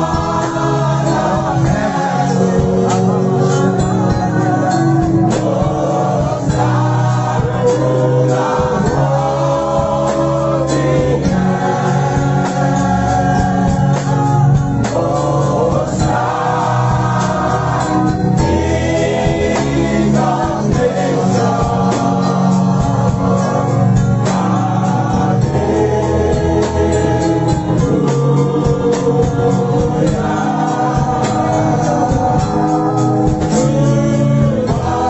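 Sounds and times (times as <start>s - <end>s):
congregation singing gospel song: 0.0s - 35.0s
live band playing: 0.0s - 35.0s.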